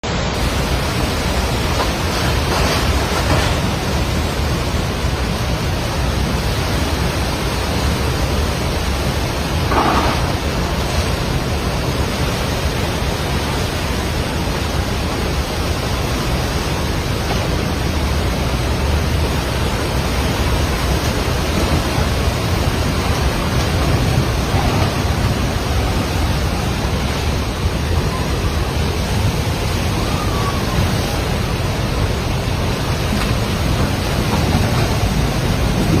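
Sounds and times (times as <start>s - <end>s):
rushing floodwater roar: 0.0s - 36.0s.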